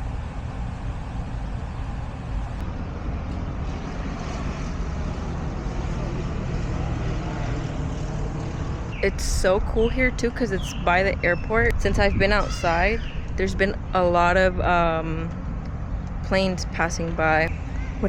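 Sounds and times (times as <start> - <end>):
airplane passing overhead: 0.0 - 18.0.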